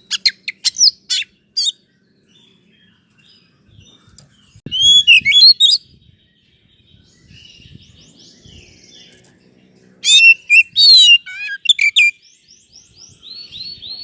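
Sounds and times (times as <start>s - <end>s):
bird singing whistles and chirps: 0.0s - 14.0s.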